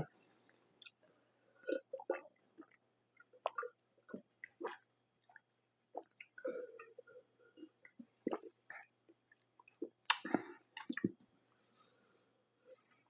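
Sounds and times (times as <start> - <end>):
mouth chewing food: 0.5 - 11.6.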